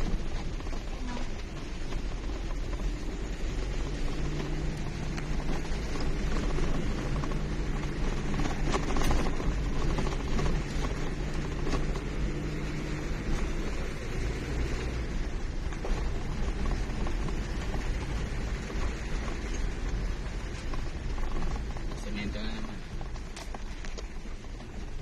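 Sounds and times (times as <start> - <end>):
car engine hum inside cabin: 0.0 - 25.0
tyres rolling on rough road: 0.0 - 25.0.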